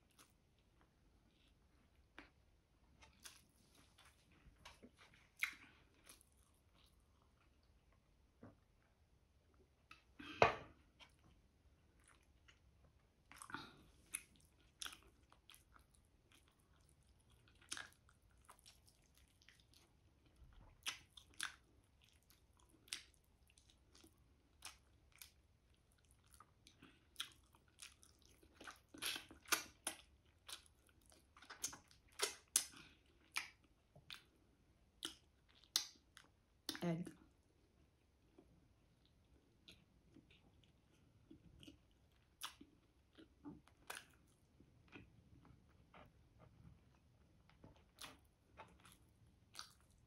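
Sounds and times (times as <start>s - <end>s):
chewing and biting food: 3.0s - 7.8s, 10.9s - 37.3s, 38.3s - 50.0s.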